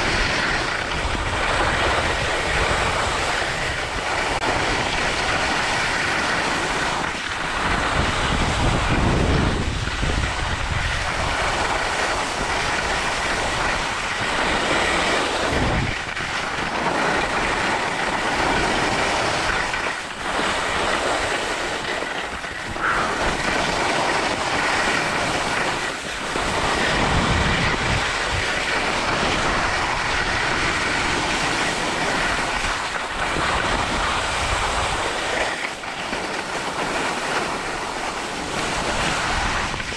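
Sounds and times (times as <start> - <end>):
skis scraping over snow: 0.0 - 39.9
wind buffeting microphone: 0.0 - 39.9.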